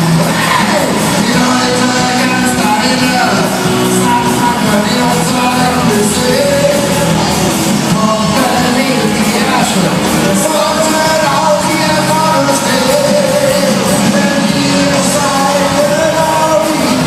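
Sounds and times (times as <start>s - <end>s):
live band with singing: 0.0s - 17.0s.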